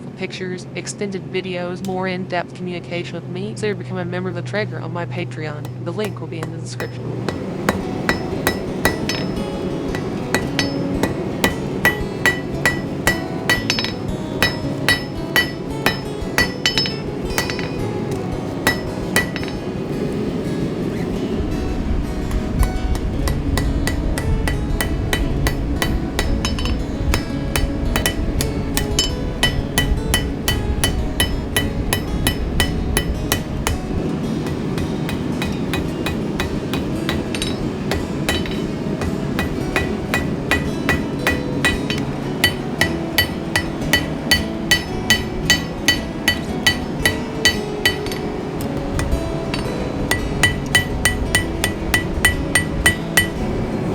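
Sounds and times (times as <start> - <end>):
hammer striking steel on anvil: 5.6 - 21.1, 22.2 - 53.6.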